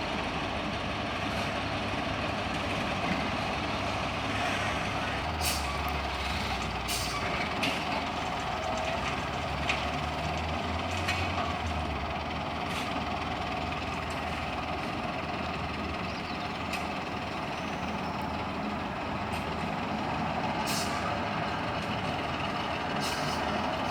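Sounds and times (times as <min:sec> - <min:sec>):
heavy truck engine running: 0:00.0 - 0:23.9.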